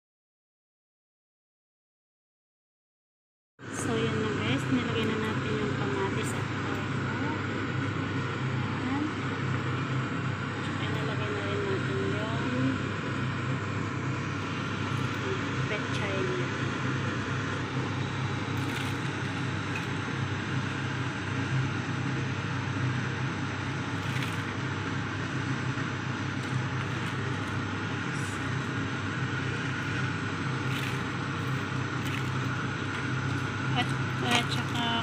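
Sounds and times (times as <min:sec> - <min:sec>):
low hum: 0:03.7 - 0:35.0.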